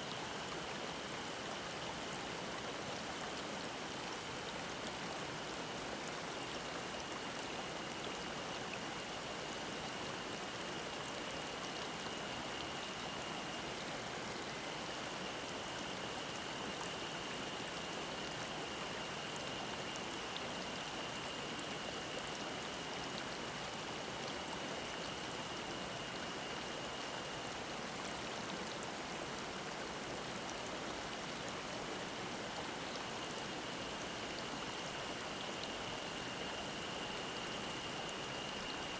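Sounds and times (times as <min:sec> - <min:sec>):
mountain stream babbling: 0:00.0 - 0:38.9.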